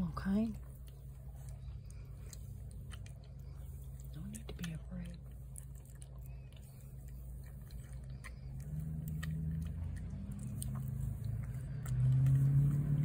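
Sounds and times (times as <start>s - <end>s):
low steady hum: 0.0s - 13.0s
cat chewing wet food: 0.1s - 13.0s.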